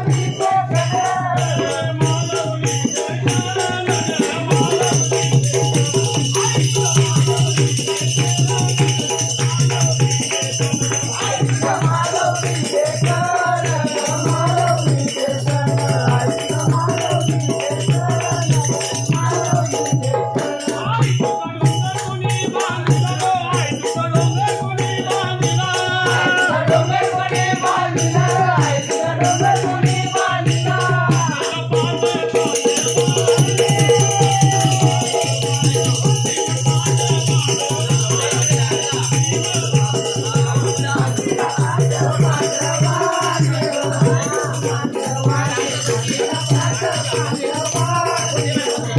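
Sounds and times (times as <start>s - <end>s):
fast rattling percussion: 0.0s - 48.9s
person singing: 0.0s - 48.9s.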